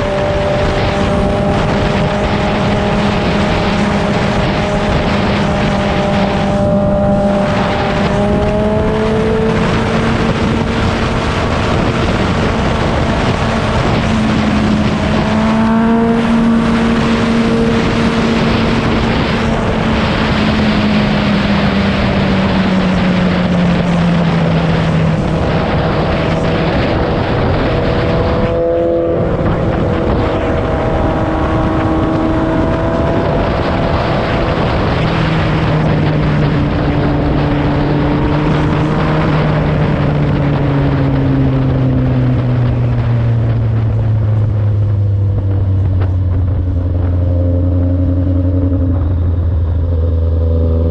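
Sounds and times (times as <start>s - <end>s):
motorcycle engine running: 0.0s - 50.9s
wind rush: 0.0s - 50.9s.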